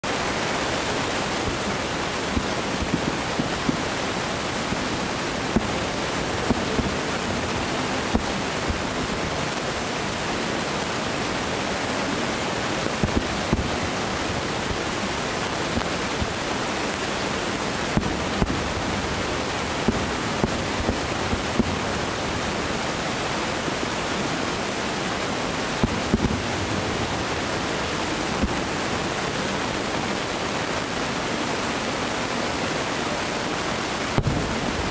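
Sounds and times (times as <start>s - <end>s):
steady rushing noise: 0.0s - 31.4s, 34.0s - 34.9s
distant fireworks bangs: 0.3s - 24.2s, 24.8s - 29.6s, 34.0s - 34.9s.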